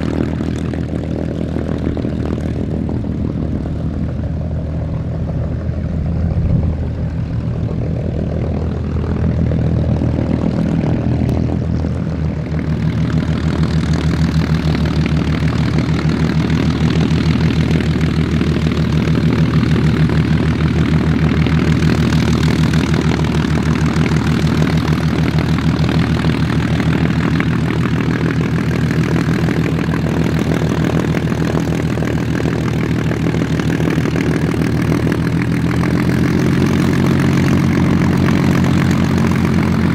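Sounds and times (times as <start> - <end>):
aircraft engine deep throb: 0.0 - 39.9.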